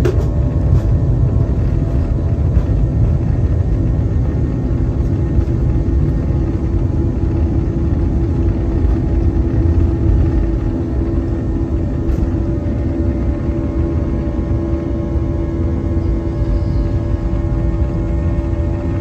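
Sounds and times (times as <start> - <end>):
jet engines droning: 0.0 - 19.0
wheels rumbling on runway: 0.0 - 19.0.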